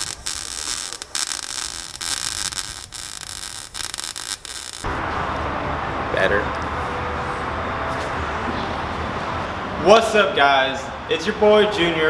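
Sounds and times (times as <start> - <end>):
loud static hiss: 0.0 - 11.1.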